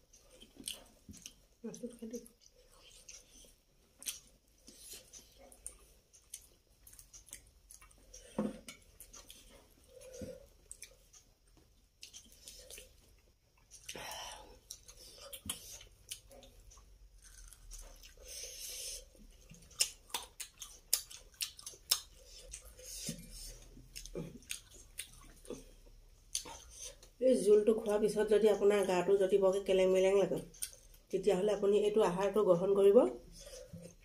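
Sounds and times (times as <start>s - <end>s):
wet chewing: 0.0s - 27.2s, 30.4s - 31.1s.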